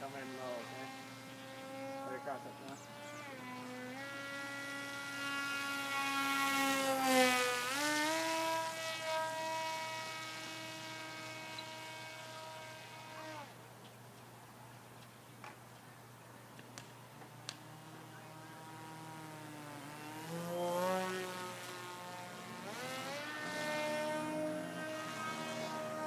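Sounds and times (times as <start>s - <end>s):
model airplane motor whining: 0.0s - 13.6s, 17.1s - 26.0s.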